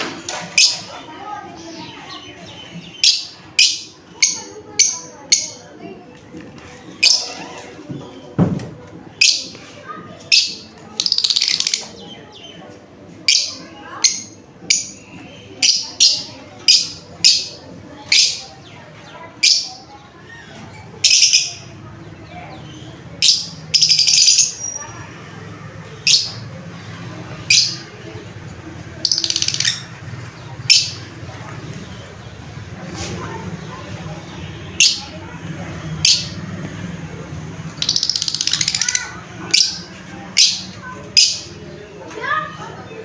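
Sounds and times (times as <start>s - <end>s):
lovebirds chirping and chattering: 0.0s - 43.0s.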